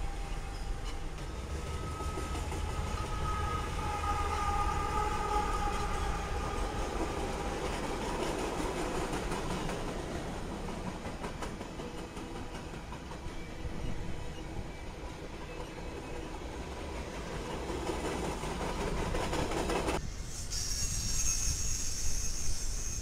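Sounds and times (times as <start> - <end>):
diesel locomotives passing: 0.0 - 23.0
freight train rumbling: 0.0 - 23.0.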